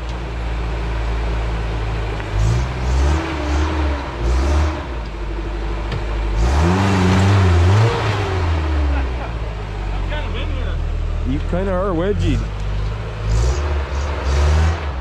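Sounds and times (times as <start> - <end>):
pickup engine revving: 1.6 - 15.0.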